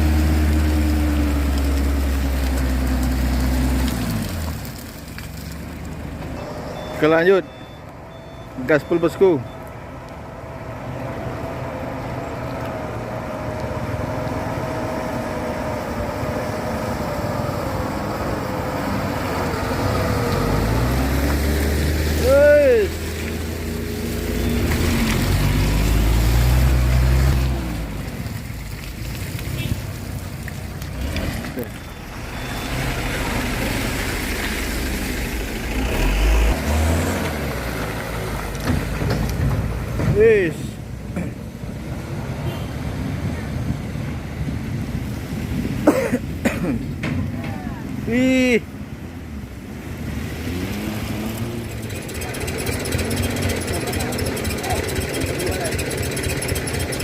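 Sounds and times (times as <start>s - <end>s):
truck diesel engine labouring: 0.0s - 57.0s.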